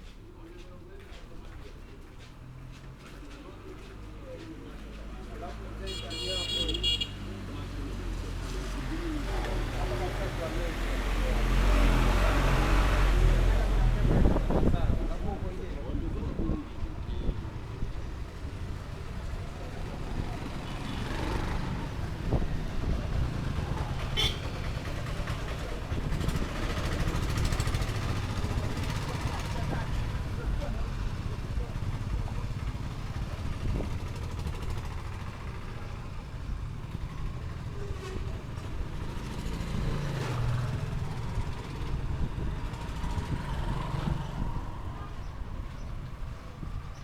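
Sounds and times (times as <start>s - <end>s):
traffic engines: 0.0s - 47.0s.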